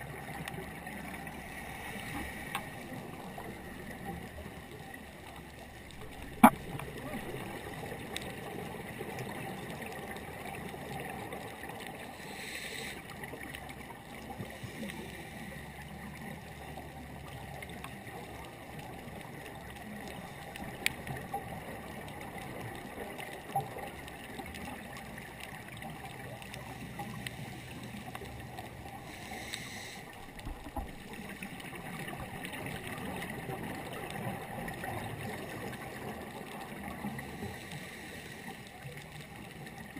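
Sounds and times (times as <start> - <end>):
muffled underwater hiss: 0.0 - 39.9.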